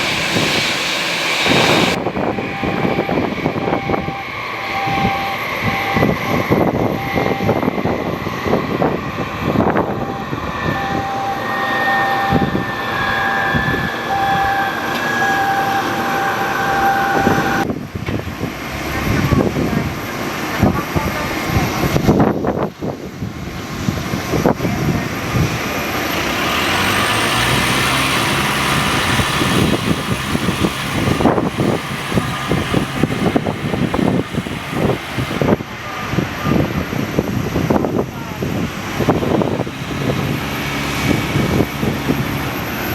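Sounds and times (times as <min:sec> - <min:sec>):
airliner engines whining: 0:00.0 - 0:42.9
wind buffeting microphone: 0:00.0 - 0:42.9.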